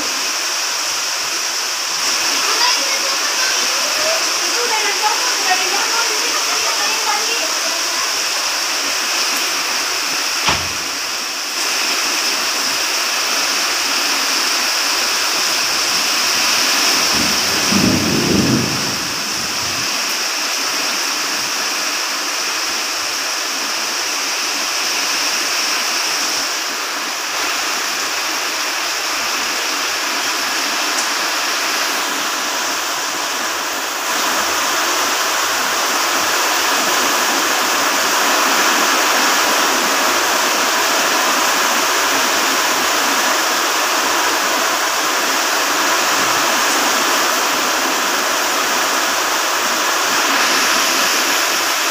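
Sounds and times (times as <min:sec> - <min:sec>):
heavy rain rushing: 0:00.0 - 0:51.9.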